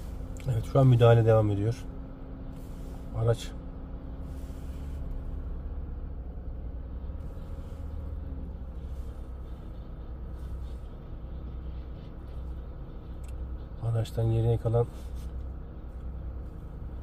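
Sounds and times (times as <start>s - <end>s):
low steady hum: 0.0s - 17.0s
vehicle engine rumbling: 0.0s - 17.0s.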